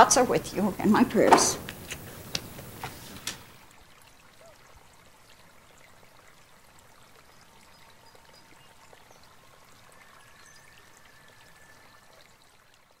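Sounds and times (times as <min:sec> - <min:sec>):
faint recording hiss: 0:00.0 - 0:13.0.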